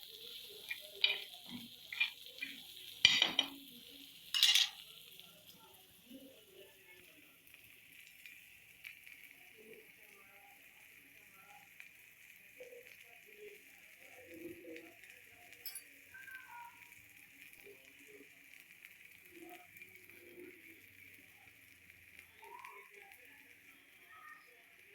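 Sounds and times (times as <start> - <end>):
food sizzling in a pan: 0.0 - 24.9.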